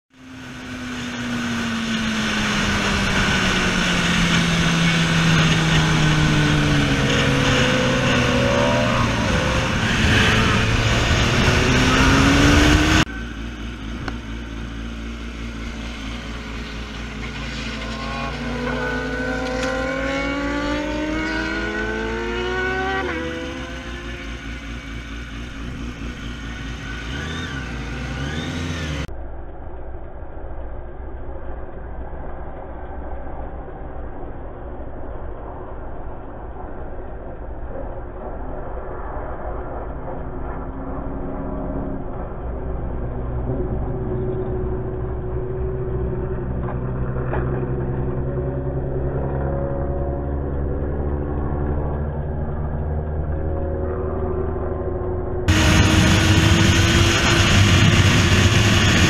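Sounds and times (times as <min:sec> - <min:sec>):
motorcycle engine: 0:00.1 - 0:59.0
motorcycles passing by: 0:00.2 - 0:29.1, 0:40.1 - 0:59.0.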